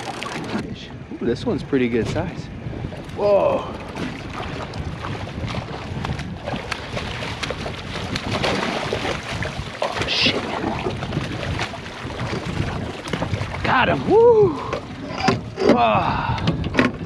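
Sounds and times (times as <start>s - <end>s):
fish thrashing and splashing: 0.0s - 0.7s, 2.9s - 16.0s
low rumble of wind: 0.0s - 17.0s.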